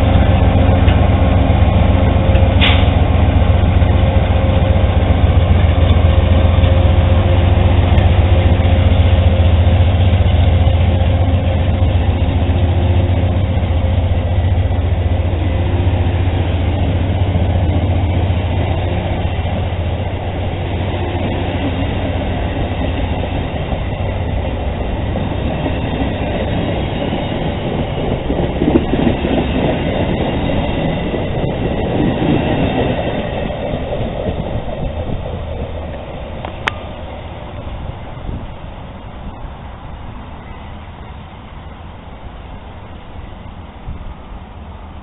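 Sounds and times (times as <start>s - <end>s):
train wheels on rails: 0.0s - 45.0s.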